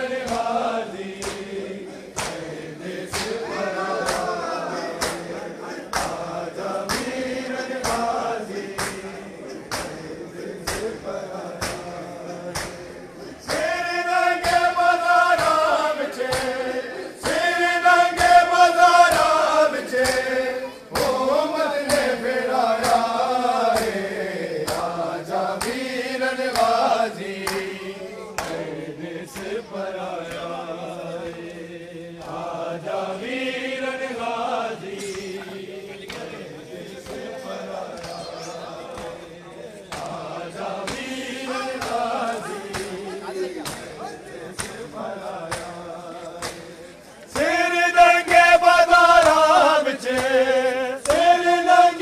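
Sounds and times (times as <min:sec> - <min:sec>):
men chanting in unison: 0:00.0 - 0:52.0
rhythmic chest-beating strikes: 0:00.0 - 0:52.0.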